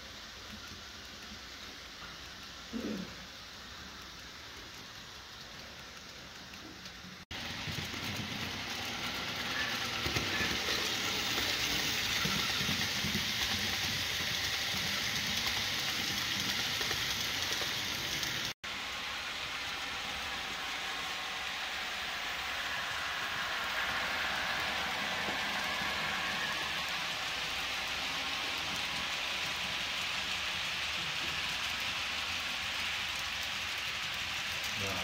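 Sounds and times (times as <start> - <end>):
model train wheels rattling on rail: 0.0 - 18.6, 19.5 - 35.0.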